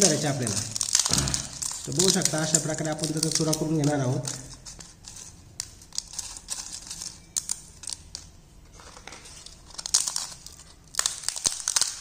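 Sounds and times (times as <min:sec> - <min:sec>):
crisp wafers cracking: 0:00.0 - 0:12.0.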